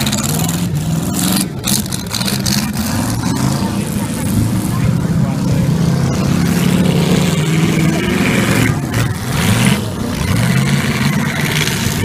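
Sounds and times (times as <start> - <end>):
car engines revving hard: 0.0 - 12.0
cars grinding against each other: 0.0 - 12.0.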